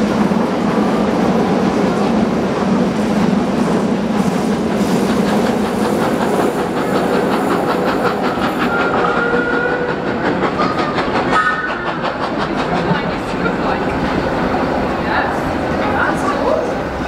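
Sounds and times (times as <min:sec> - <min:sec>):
train wheels clattering over joints: 0:01.4 - 0:17.0.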